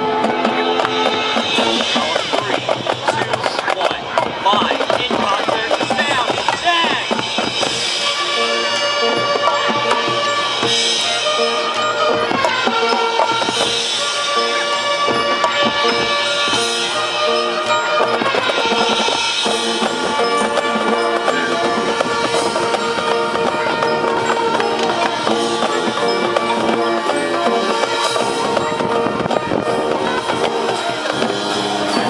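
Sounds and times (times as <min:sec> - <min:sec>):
brass and winds sustained notes: 0:00.0 - 0:32.0
drumline: 0:00.0 - 0:32.0.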